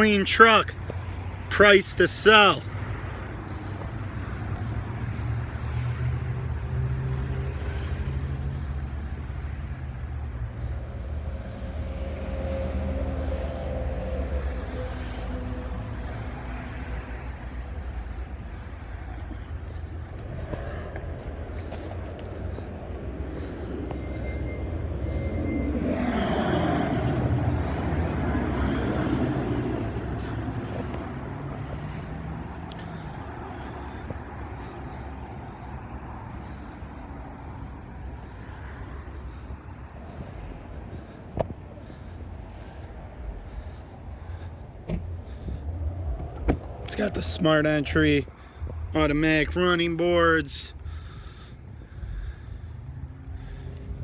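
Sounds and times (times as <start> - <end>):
traffic rumble: 0.0 - 54.0
vehicle engine idling: 7.5 - 26.3, 26.9 - 54.0.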